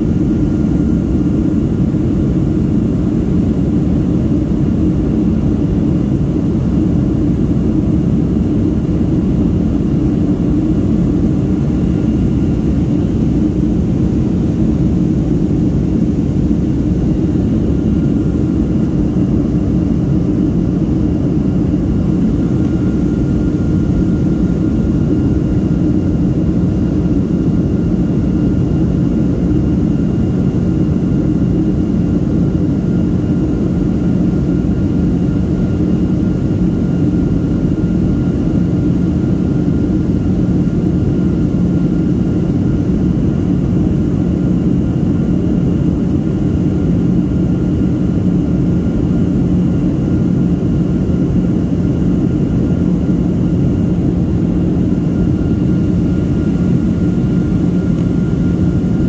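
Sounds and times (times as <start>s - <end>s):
jet engine and airflow rumble: 0.0s - 59.0s.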